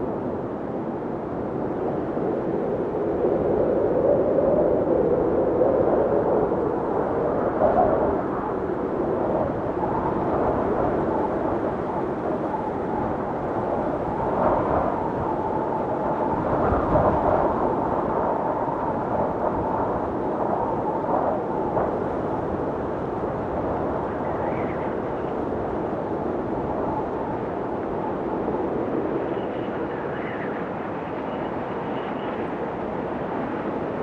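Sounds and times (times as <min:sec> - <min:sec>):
howling blizzard wind: 0:00.0 - 0:34.0.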